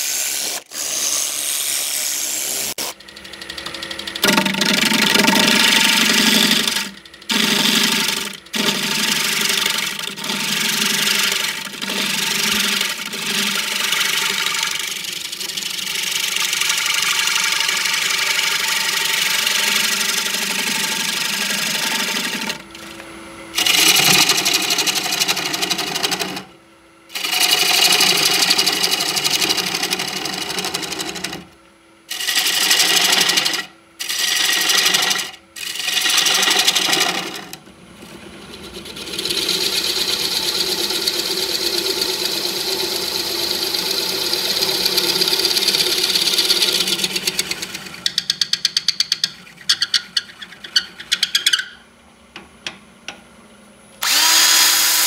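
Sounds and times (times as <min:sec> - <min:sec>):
power tool motor running: 0:00.0 - 0:23.0, 0:23.6 - 0:26.5, 0:27.1 - 0:31.5, 0:32.1 - 0:37.6, 0:38.6 - 0:48.4, 0:54.0 - 0:55.0.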